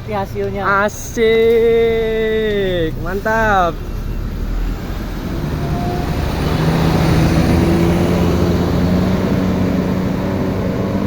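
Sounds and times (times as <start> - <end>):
bus engine pulling away: 0.0 - 11.0.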